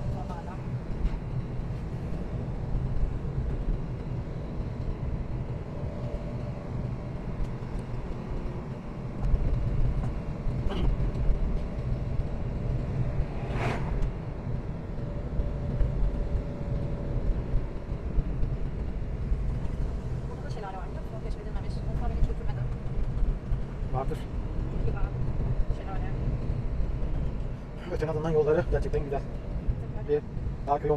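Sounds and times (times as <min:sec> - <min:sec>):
car engine and tyre rumble: 0:00.0 - 0:30.9.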